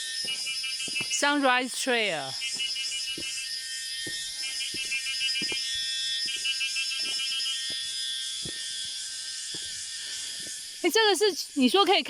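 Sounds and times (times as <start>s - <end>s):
high-pitched chirping bursts: 0.0s - 12.0s
high-pitched insect hum: 0.0s - 12.0s.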